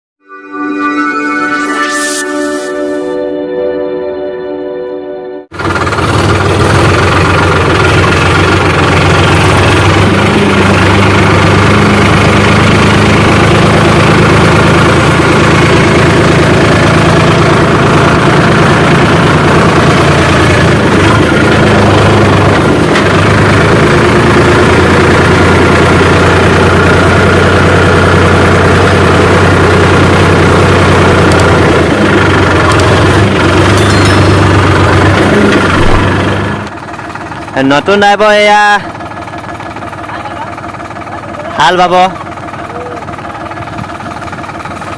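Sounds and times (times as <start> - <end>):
tractor diesel engine running: 5.5 - 44.9.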